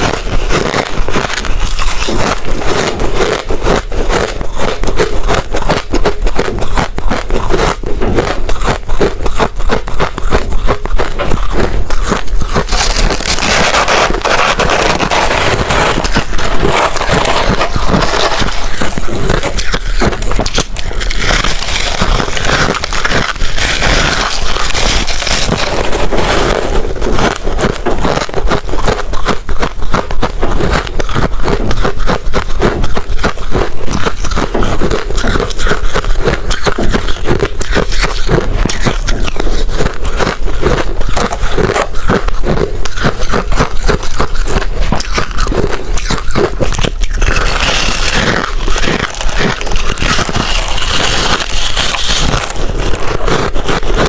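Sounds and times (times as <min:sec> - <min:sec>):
ice being chewed crunching: 0:00.0 - 0:54.0.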